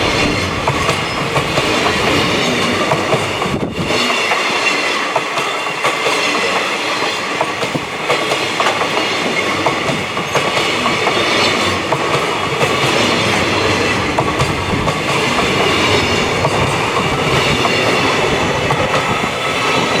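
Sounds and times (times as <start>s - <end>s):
train wheels clacking over rail joints: 0.0s - 20.0s.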